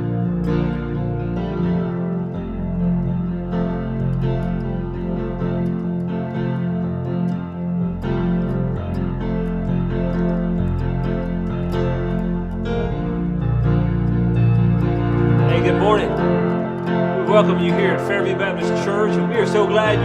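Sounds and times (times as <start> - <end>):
electric piano chords: 0.0 - 20.0
guitar: 0.0 - 20.0.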